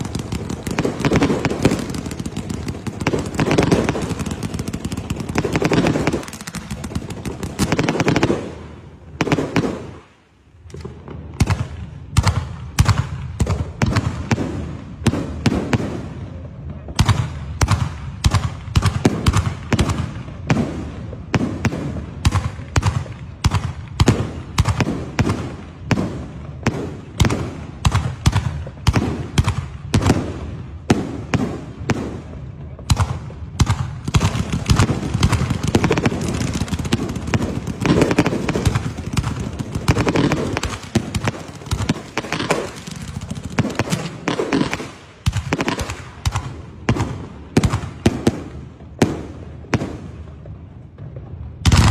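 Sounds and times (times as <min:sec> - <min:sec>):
sharp firework bangs: 0:00.0 - 0:10.0, 0:10.7 - 0:50.1, 0:50.9 - 0:51.9
fireworks crackle: 0:00.0 - 0:15.8, 0:16.4 - 0:51.9.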